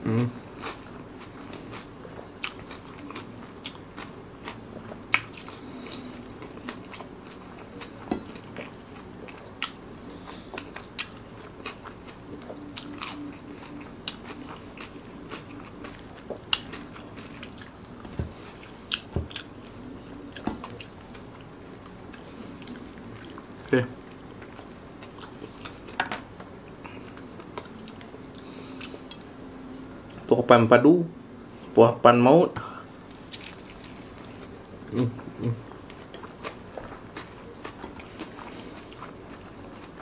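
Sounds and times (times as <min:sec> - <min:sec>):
person chewing: 0:00.4 - 0:26.0, 0:26.6 - 0:29.3, 0:33.1 - 0:40.0.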